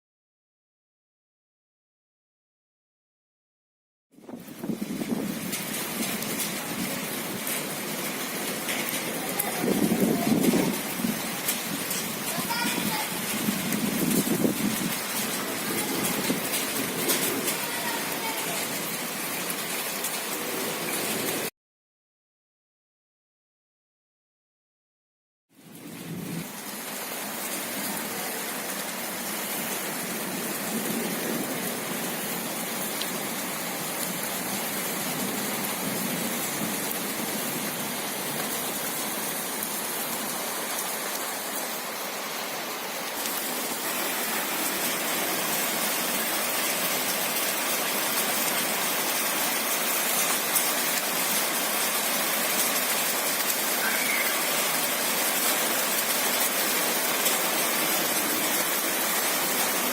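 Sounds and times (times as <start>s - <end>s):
steady rain hiss: 4.5s - 21.5s, 25.6s - 59.9s.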